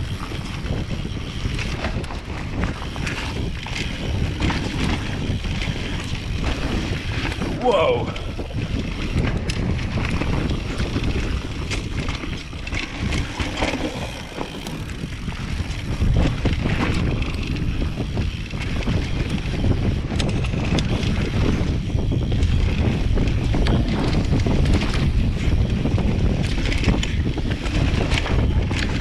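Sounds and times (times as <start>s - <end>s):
bike clicks and rattles: 0.0s - 29.0s
bike tyre rumble: 0.0s - 29.0s
wind buffeting microphone: 0.0s - 29.0s.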